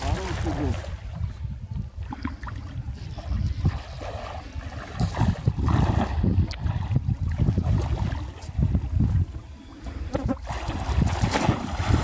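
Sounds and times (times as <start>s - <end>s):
water sloshing from wading: 0.0s - 12.0s
wind buffeting microphone: 0.0s - 12.0s.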